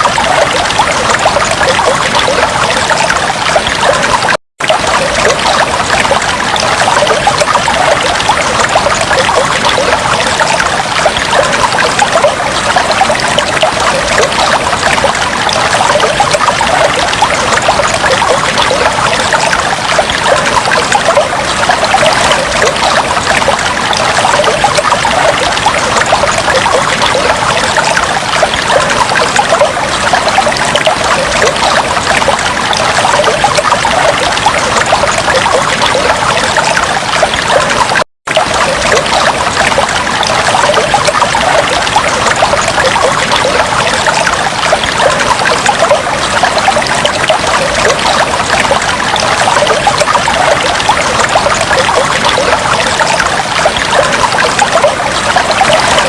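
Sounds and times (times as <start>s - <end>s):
fish tank water trickling and bubbling: 0.0s - 56.0s.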